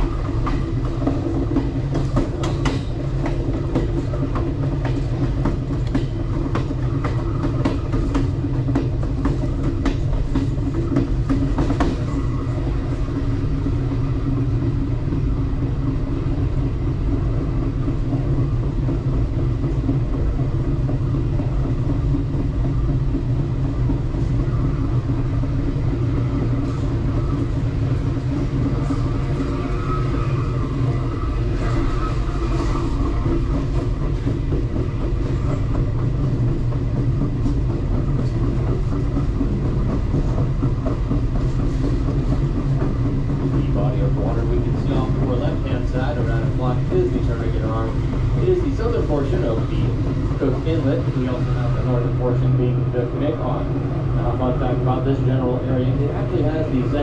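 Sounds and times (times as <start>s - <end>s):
train low rumble: 0.0s - 57.0s
wheels clicking on rails: 0.0s - 57.0s.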